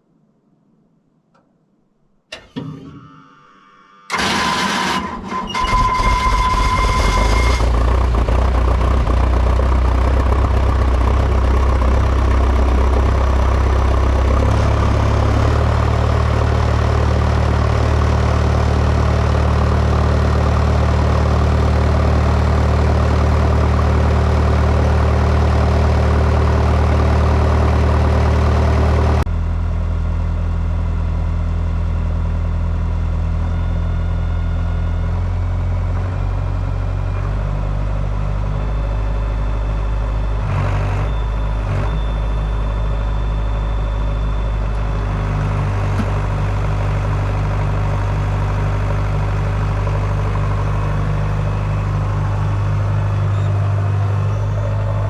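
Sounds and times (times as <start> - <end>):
diesel engine cranking and running: 4.1 - 55.0.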